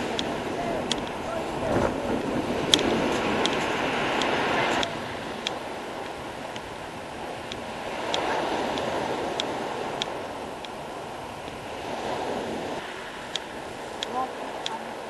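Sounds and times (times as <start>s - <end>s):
surf washing up pebble beach: 0.0s - 15.0s.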